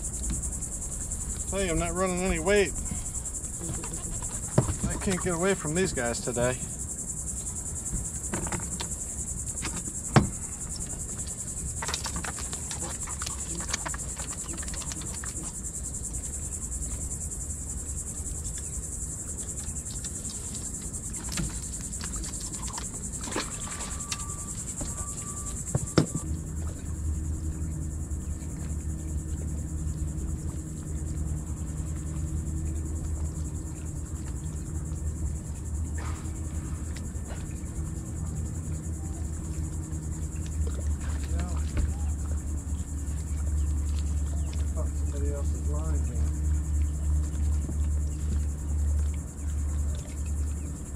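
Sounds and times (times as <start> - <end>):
high-pitched insect drone: 0.0 - 50.9
low steady hum: 0.0 - 50.9.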